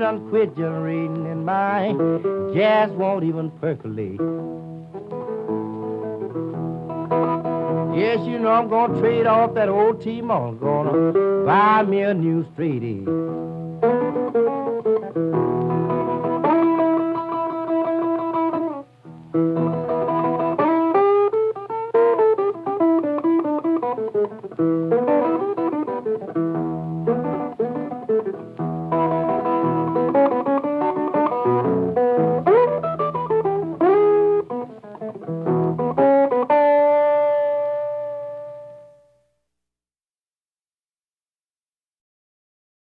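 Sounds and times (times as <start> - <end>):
solo blues guitar: 0.0 - 39.3.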